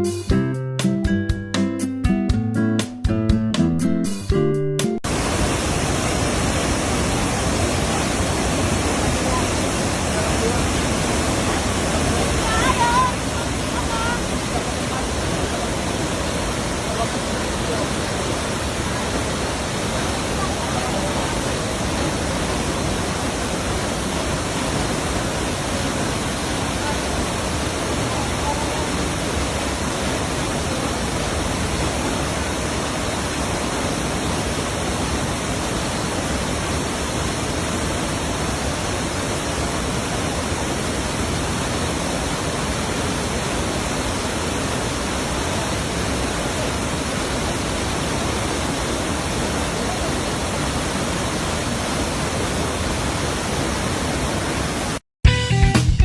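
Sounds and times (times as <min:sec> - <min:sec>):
waterfall rushing: 0:05.0 - 0:55.0.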